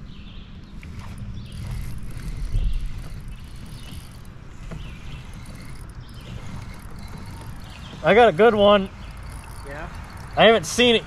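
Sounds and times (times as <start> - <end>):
fishing reel cranking: 0.7 - 11.0.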